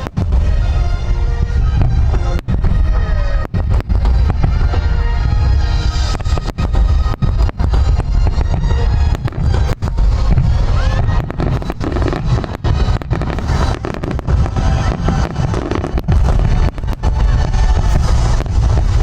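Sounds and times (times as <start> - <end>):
firework whistling rise: 0.0 - 19.0
fireworks booms and cracks: 0.0 - 19.0.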